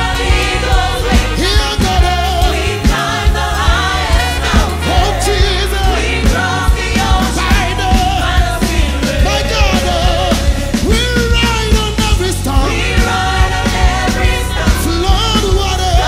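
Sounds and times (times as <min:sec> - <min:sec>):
gospel choir singing: 0:00.0 - 0:16.0
live band bass and drums: 0:00.0 - 0:16.0.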